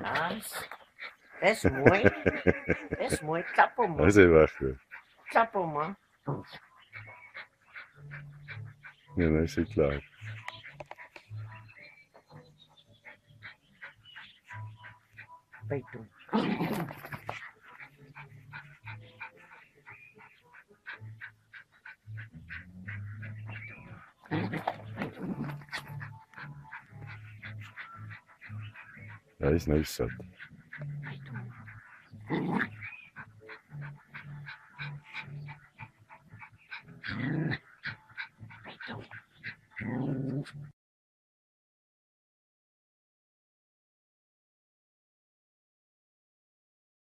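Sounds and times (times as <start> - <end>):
dog growling and panting: 0.0 - 9.1, 10.0 - 40.8.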